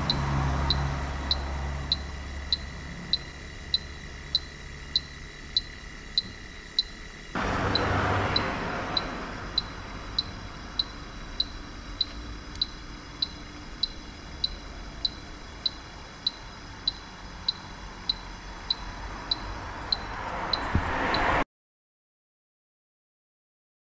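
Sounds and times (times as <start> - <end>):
sharp ticking: 0.0 - 21.4.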